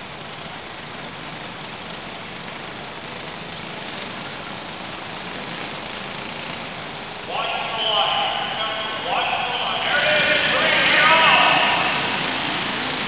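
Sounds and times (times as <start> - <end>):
kart engines droning: 0.0 - 13.0.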